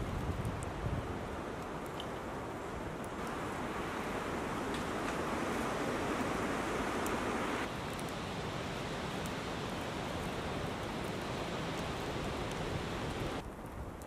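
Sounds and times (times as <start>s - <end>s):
flame rushing: 0.0s - 13.8s
fire crackling: 0.0s - 14.0s.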